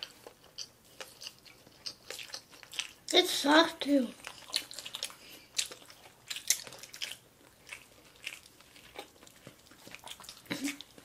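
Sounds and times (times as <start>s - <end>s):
close-miked chewing and crunching: 0.0s - 11.0s.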